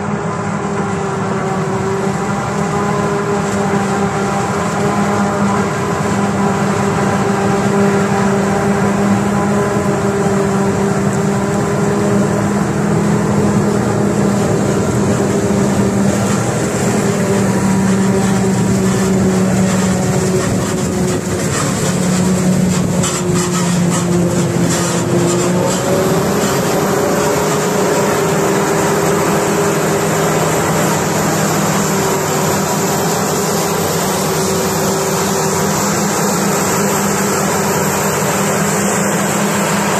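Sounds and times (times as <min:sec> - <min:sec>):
diesel farm machinery running: 0:00.0 - 0:39.9.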